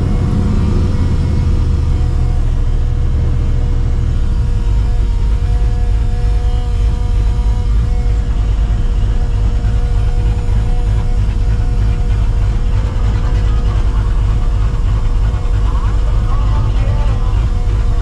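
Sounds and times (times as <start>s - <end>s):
car engine rumbling: 0.0s - 18.0s
supercharger whine: 0.0s - 18.0s.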